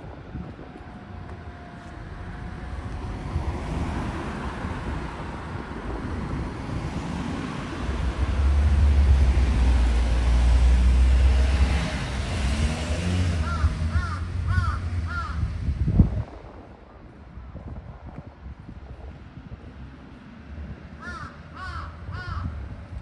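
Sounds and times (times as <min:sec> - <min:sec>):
heavy low rumble: 0:00.0 - 0:23.0
car passing: 0:00.2 - 0:17.8, 0:18.4 - 0:23.0.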